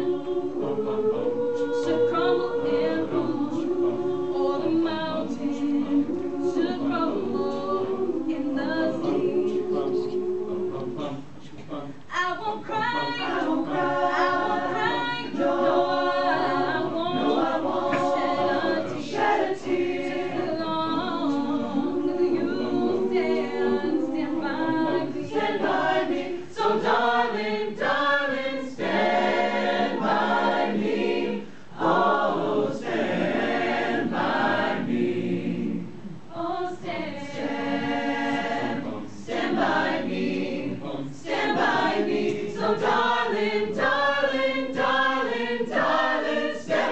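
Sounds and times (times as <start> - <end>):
choir singing: 0.0 - 11.2, 12.1 - 46.9.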